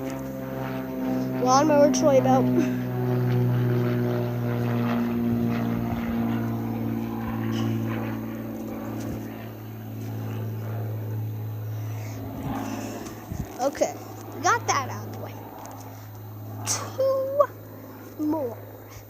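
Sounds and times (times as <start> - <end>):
lawnmower engine droning: 0.0 - 19.0.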